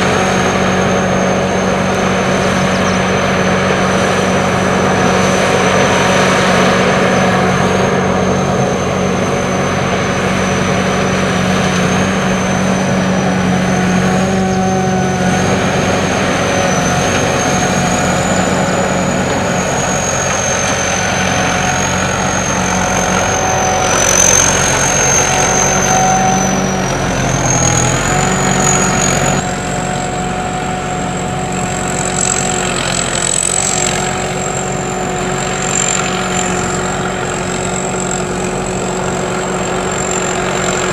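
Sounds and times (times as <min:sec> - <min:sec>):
harvester engine drone: 0:00.0 - 0:40.9
high thin machinery whine: 0:00.0 - 0:40.9.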